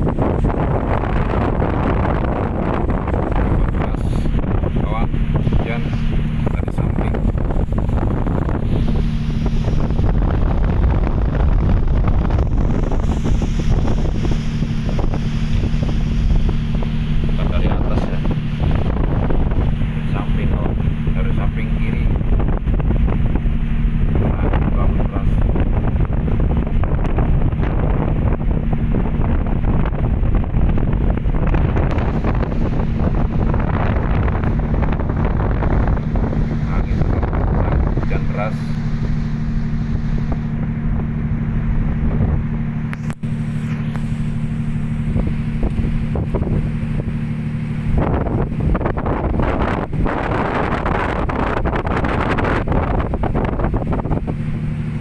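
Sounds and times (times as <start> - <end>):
steady low hum: 0.0 - 55.0
wind buffeting microphone: 0.0 - 55.0.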